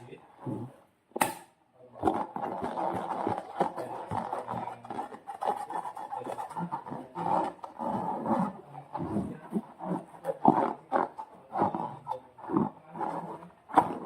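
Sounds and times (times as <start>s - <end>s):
slime squelching in a balloon: 0.0s - 0.9s, 2.0s - 14.0s.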